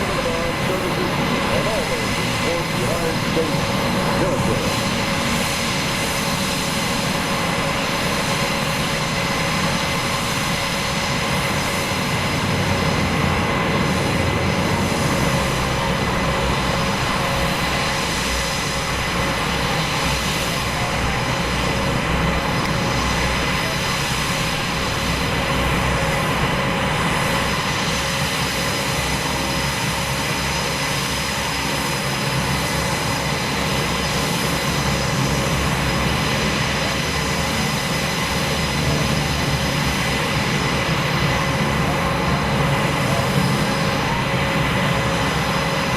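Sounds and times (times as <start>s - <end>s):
aircraft engines droning: 0.0s - 45.9s.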